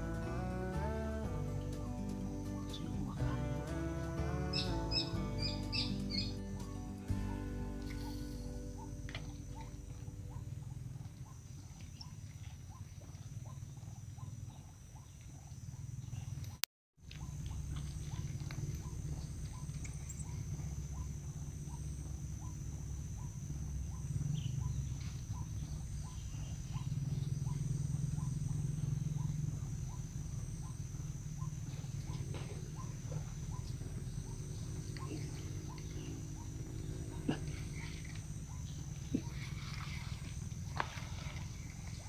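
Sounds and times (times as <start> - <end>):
high insect drone: 0.0 - 12.8, 17.2 - 42.0
low rumble: 0.0 - 13.8, 17.2 - 42.0.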